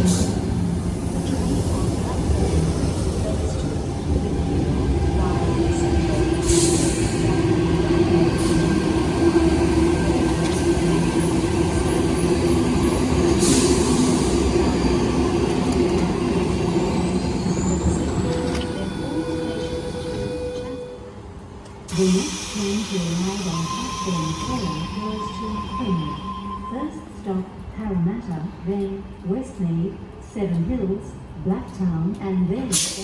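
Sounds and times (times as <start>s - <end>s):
train rumbling and humming: 0.0s - 33.0s.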